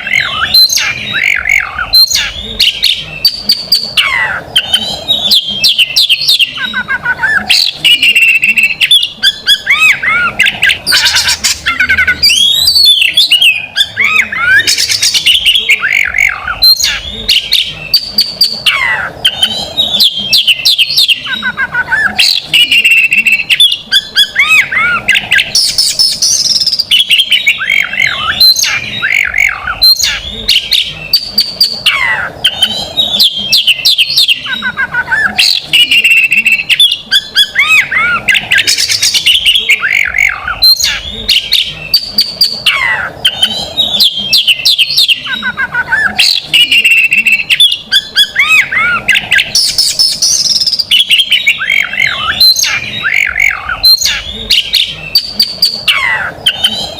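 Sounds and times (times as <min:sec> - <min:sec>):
rapid chattering bird notes: 0:00.0 - 0:56.9
songbird singing loudly: 0:00.0 - 0:56.9.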